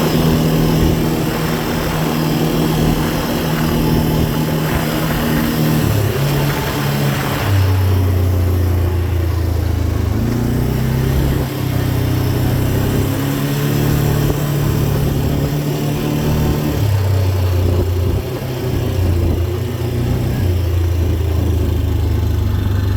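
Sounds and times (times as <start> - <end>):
wind noise: 0.0 - 21.2
dirt bike engine revving: 0.0 - 22.9.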